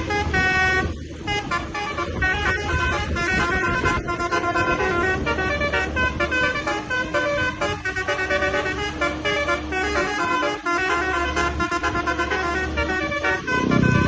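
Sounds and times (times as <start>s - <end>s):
bus engine hum: 0.0s - 14.0s
bus horns tooting a melody: 0.0s - 14.0s.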